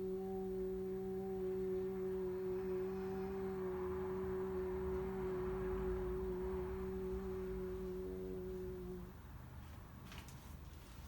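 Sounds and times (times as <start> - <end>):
person holding a steady vowel: 0.0 - 9.2.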